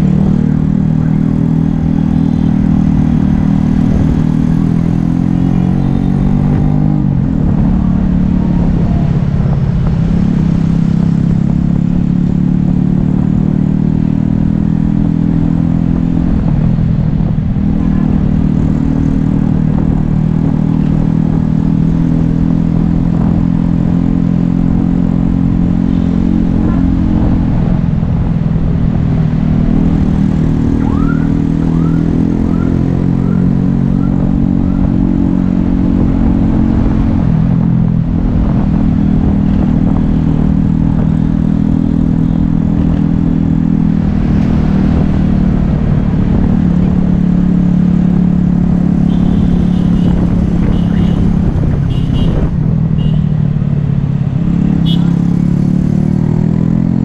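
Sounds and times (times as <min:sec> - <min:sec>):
motorbike engine cruising: 0:00.0 - 0:57.0
wind and road noise: 0:00.0 - 0:57.0.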